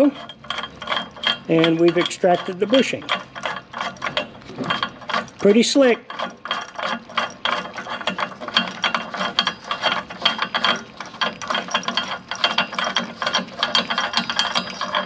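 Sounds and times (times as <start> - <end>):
nut clicking along bolt threads: 0.0 - 15.0.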